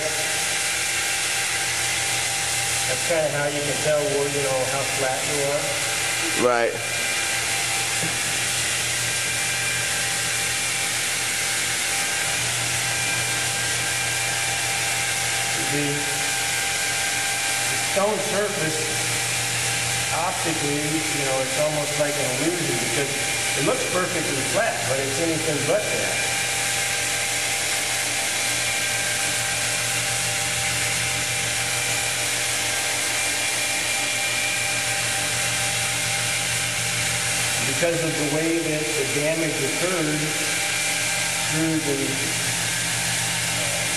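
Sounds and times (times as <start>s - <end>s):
abrasive pad scrubbing wet stone: 0.0s - 43.9s
electric polisher motor whine: 0.0s - 43.9s.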